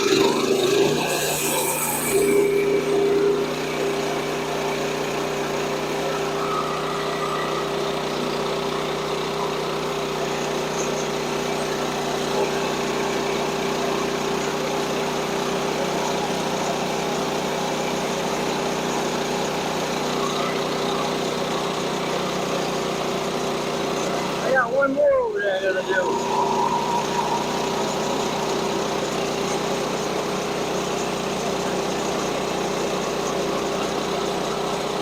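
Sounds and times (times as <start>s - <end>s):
sawmill small engine running: 0.0s - 35.0s.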